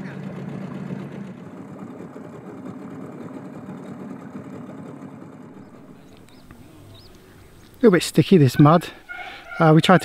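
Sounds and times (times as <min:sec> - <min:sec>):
outboard motor puttering: 0:00.0 - 0:09.6.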